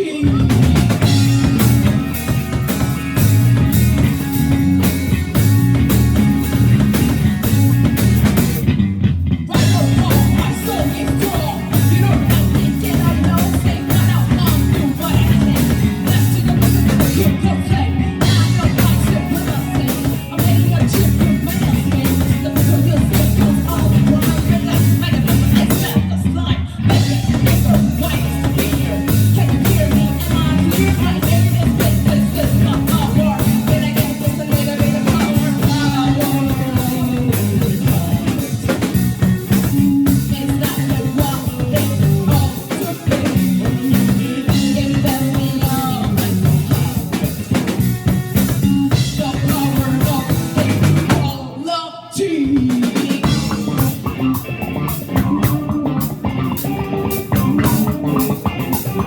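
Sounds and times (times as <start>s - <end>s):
person singing: 0.0s - 8.4s, 9.5s - 59.0s
live rock band playing: 0.0s - 59.0s.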